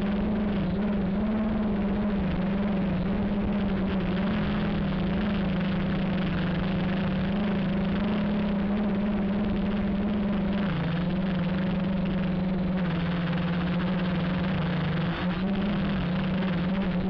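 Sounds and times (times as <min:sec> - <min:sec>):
quadcopter motors droning: 0:00.0 - 0:17.0.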